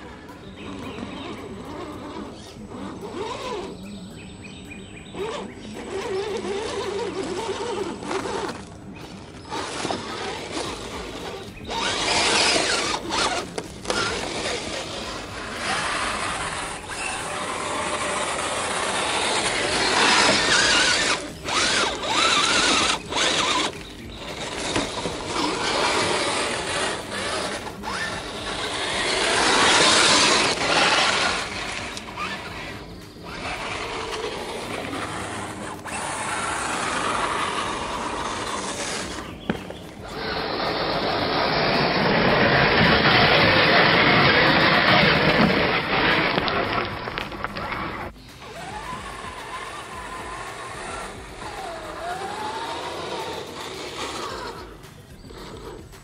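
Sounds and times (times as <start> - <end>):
rc car motor whining and grinding: 0.0 - 56.0.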